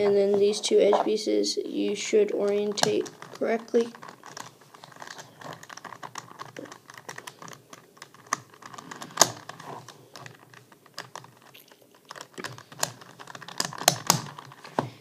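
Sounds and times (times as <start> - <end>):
plastic puzzle pieces clicking: 2.4 - 15.0.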